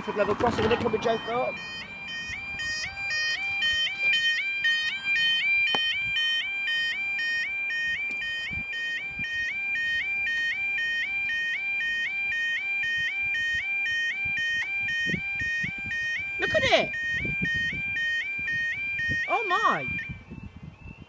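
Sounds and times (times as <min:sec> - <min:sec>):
level crossing warbling alarm: 0:00.0 - 0:20.2.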